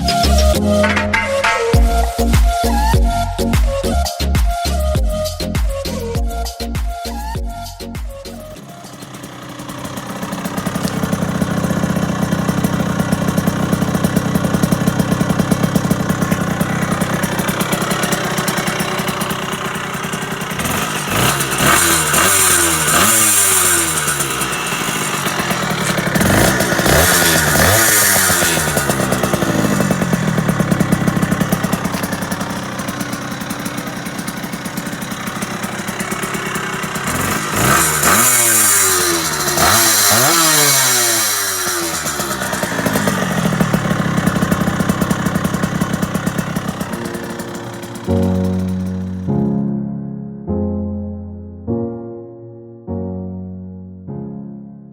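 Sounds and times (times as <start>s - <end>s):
moped two-stroke engine revving: 0.0s - 49.6s.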